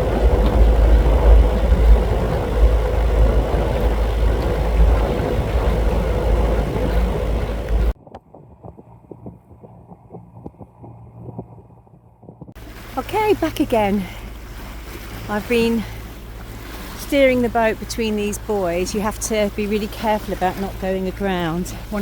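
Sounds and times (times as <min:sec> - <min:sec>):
boat engine running: 0:00.0 - 0:22.0
wind rumble on microphone: 0:00.0 - 0:22.0.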